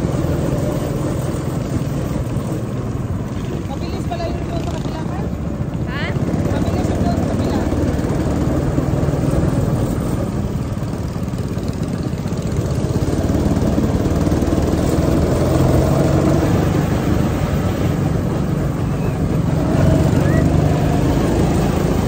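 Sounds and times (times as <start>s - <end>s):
go-kart engine running: 0.0s - 22.0s.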